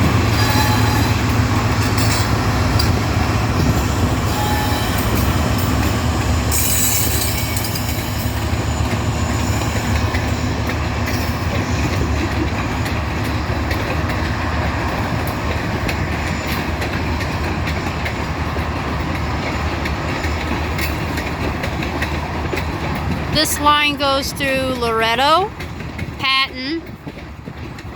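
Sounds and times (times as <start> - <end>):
wheels clicking over rail joints: 0.0 - 26.2, 26.8 - 27.9
freight train wheels rumbling: 0.0 - 27.9.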